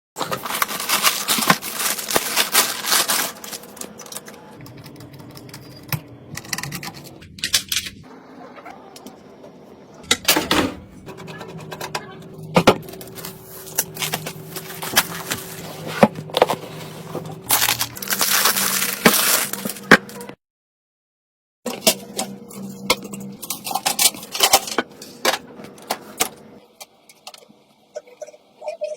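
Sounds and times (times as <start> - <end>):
low steady hum: 0.4 - 20.3, 21.7 - 28.6.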